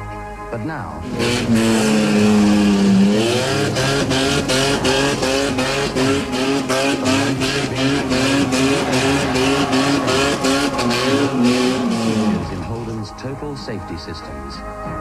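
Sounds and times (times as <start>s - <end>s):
car engine revving: 1.0s - 13.4s.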